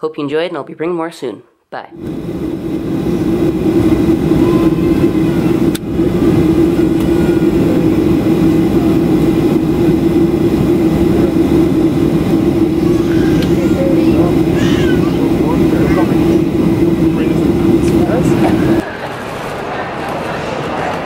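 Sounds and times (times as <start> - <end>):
jet engines at takeoff: 2.0 - 21.0.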